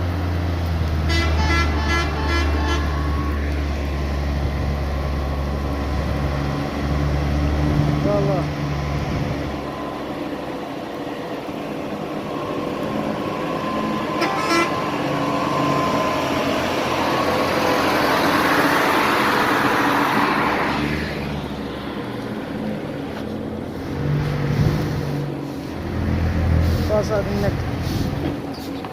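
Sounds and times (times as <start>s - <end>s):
vehicle passing: 0.0s - 28.7s
truck engines running: 0.0s - 28.9s.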